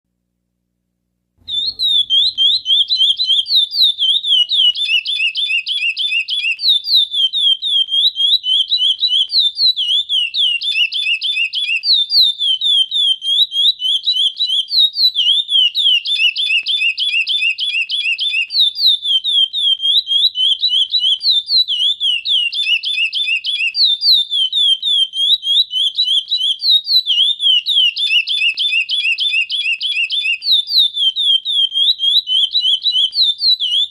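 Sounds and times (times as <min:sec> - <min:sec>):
finch singing whistled notes: 0:01.4 - 0:33.9.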